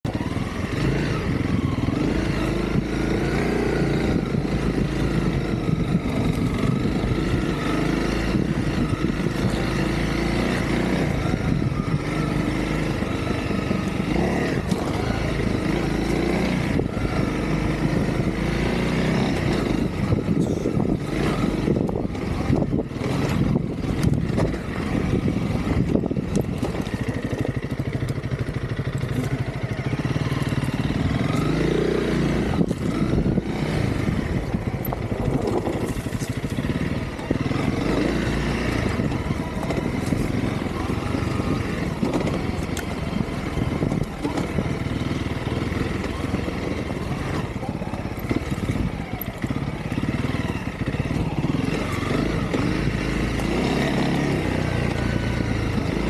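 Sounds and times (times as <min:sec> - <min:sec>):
motorcycle engine running: 0:00.0 - 0:56.0
riding noise: 0:00.1 - 0:56.0.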